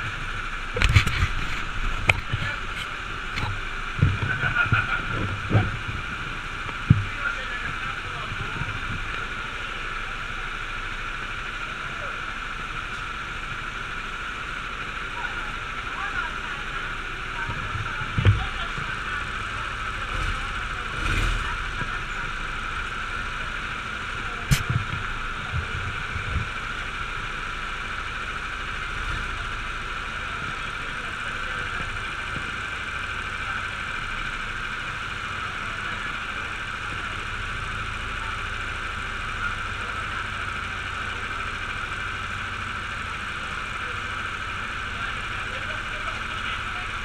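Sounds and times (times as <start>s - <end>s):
go-kart engines idling: 0.0s - 47.0s.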